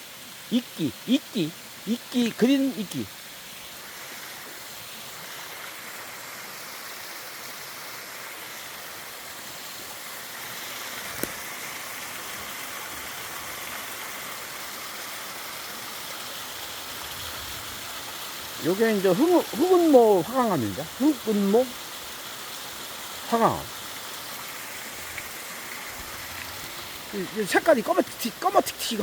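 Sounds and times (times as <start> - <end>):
stream flowing over rocks: 0.0 - 29.0.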